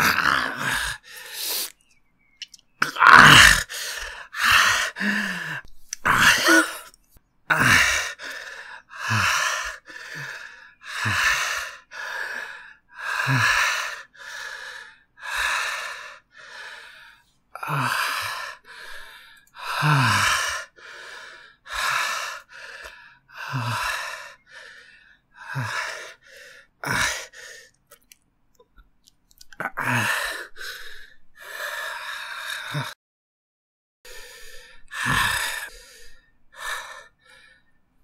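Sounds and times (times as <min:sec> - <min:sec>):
person gasping breaths: 0:00.0 - 0:01.8, 0:03.1 - 0:27.8, 0:29.7 - 0:33.0, 0:34.1 - 0:37.7.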